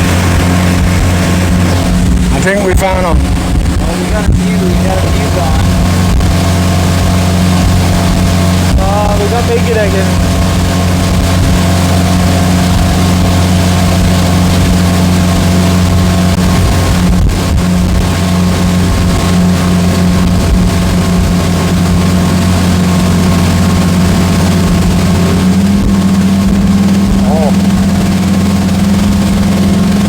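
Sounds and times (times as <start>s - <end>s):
motorboat engine humming: 0.0s - 30.0s.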